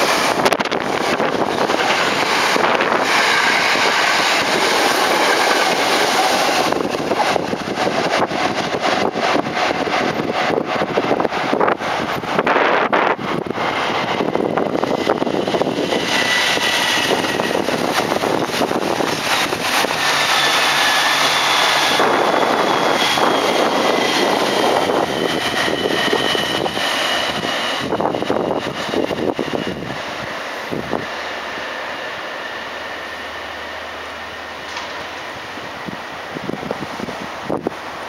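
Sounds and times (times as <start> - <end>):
electric train passing: 0.0 - 38.0
high train whine: 0.0 - 38.0.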